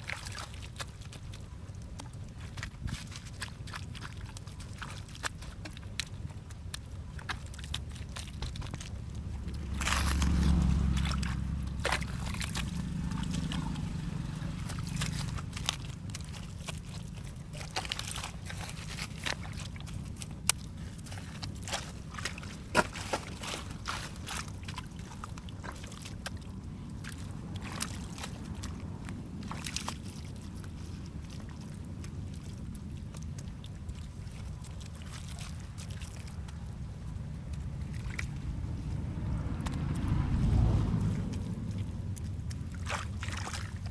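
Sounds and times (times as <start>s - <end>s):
mud squelching: 0.0s - 43.9s
steady low rumble: 0.0s - 43.9s
water sloshing: 0.0s - 43.9s.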